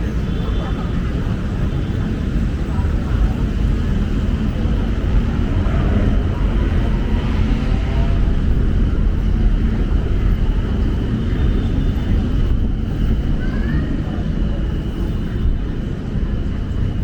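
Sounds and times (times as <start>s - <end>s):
faint voices: 0.0s - 17.0s
traffic rumble: 0.0s - 17.0s.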